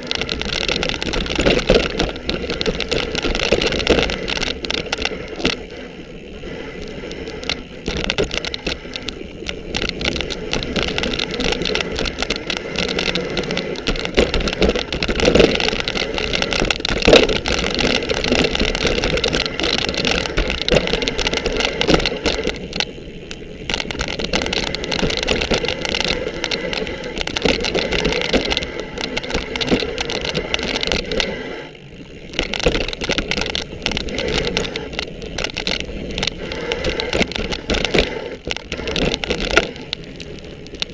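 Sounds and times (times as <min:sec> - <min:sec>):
bike rattling over rocks: 0:00.0 - 0:40.9
tyre noise on dirt: 0:00.0 - 0:40.9.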